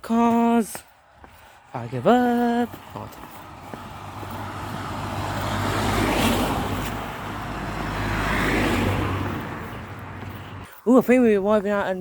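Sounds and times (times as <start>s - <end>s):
cars driving past: 1.0s - 10.7s.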